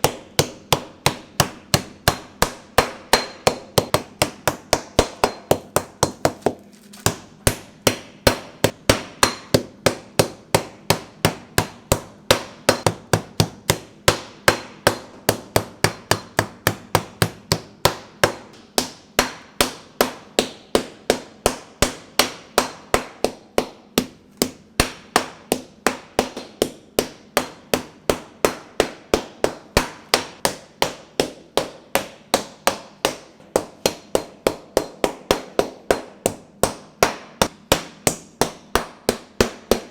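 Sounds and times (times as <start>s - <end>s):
meat mallet pounding meat: 0.0s - 39.9s.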